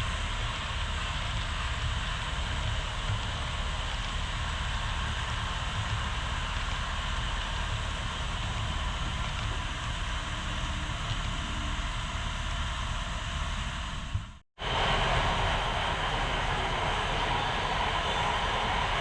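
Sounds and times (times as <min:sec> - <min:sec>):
model train wheels on track: 0:00.0 - 0:19.0.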